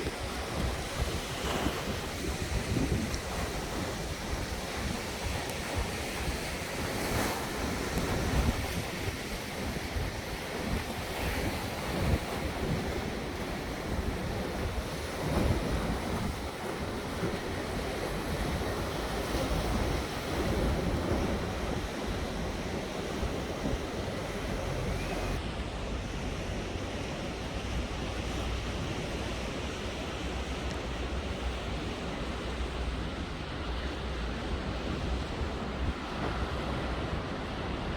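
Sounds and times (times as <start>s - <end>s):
strong wind buffeting microphone: 0.0s - 37.9s.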